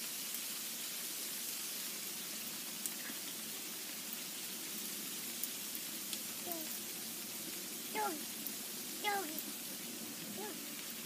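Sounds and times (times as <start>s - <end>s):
outdoor air hiss: 0.0s - 11.0s.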